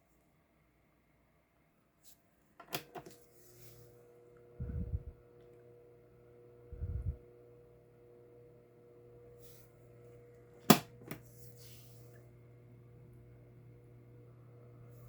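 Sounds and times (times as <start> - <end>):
electric fan humming: 2.7 - 15.0.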